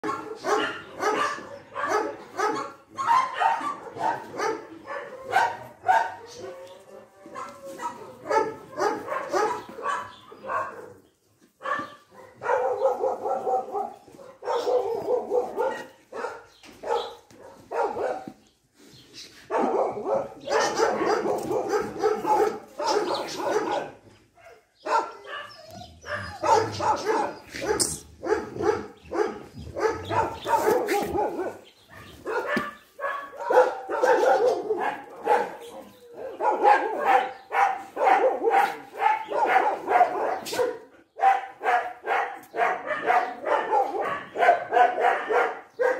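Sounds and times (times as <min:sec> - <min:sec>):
dogs barking and whining: 0:00.0 - 0:18.4, 0:19.4 - 0:45.9.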